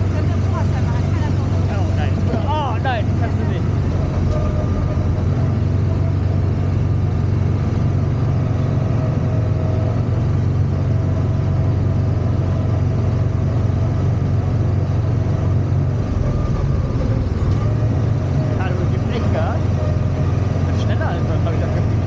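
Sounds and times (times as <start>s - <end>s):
race car motor droning: 0.0s - 22.0s.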